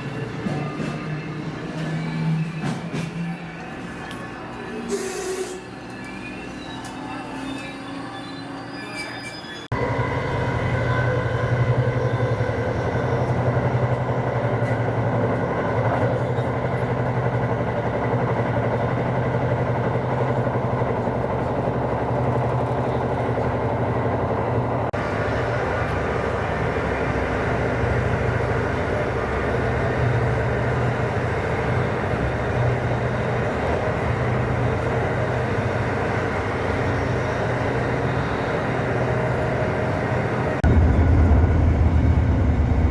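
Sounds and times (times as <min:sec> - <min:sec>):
passenger train rumbling on track: 0:00.0 - 0:42.9.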